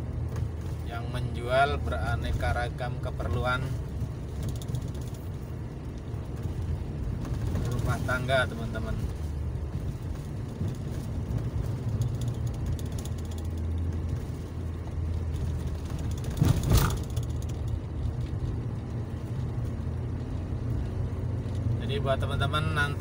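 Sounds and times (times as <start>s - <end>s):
motorcycle engine and road rumble: 0.0s - 23.0s.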